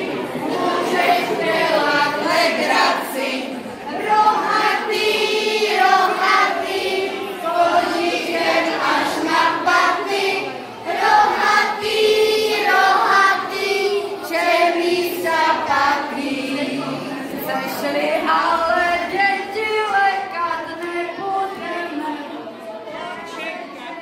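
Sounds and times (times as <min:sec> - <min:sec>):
children and women singing: 0:00.0 - 0:24.0.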